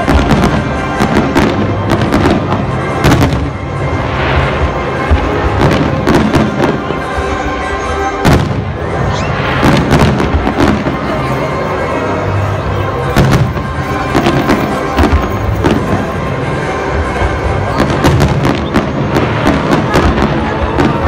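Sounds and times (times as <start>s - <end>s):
fireworks bursting: 0.0s - 21.0s
music: 0.0s - 21.0s.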